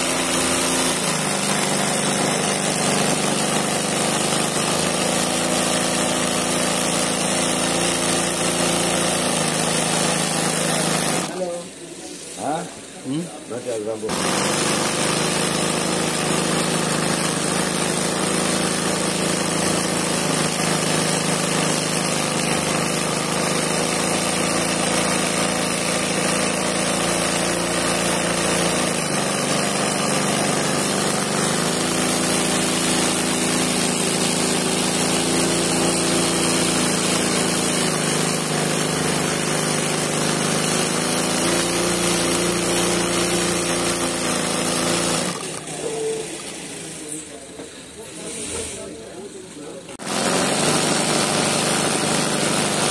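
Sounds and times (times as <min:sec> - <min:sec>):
sewing machine running: 0:00.0 - 0:11.6, 0:14.0 - 0:46.9, 0:50.0 - 0:52.9.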